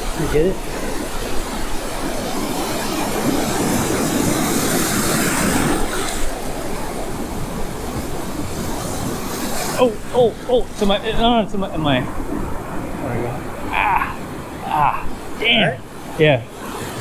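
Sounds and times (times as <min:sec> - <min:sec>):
ocean surf washing in: 0:00.0 - 0:17.0.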